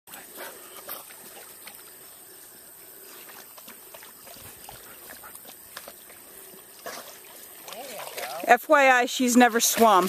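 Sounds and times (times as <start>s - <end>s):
dogs splashing in water: 0.1s - 10.0s.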